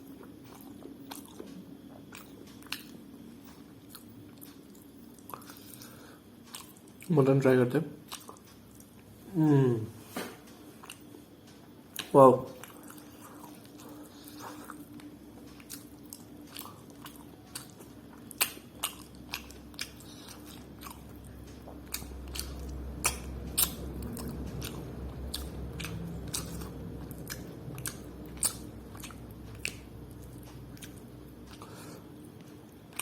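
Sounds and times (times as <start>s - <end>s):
wet chewing with mouth clicks: 0.1s - 7.1s, 8.0s - 9.1s, 10.8s - 33.0s.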